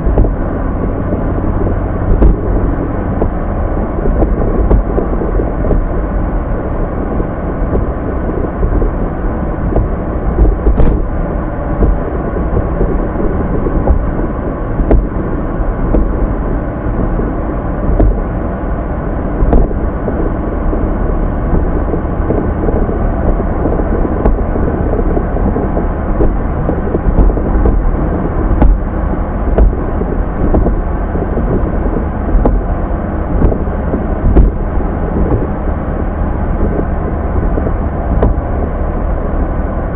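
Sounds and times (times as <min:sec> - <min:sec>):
car cabin road and engine rumble: 0:00.0 - 0:39.9.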